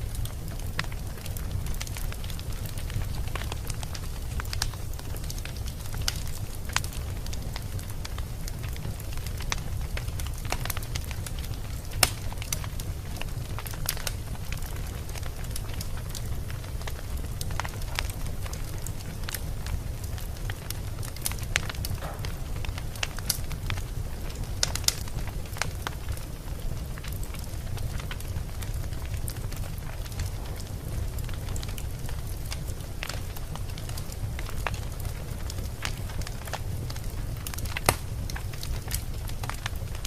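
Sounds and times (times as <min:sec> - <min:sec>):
wood fire crackling: 0:00.0 - 0:40.0
fire pops and snaps: 0:00.1 - 0:40.0.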